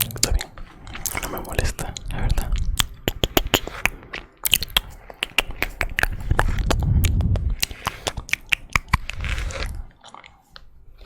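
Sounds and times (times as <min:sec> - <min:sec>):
sharp clicks and crackles: 0:00.0 - 0:10.7
rubbing against microphone: 0:00.2 - 0:10.0.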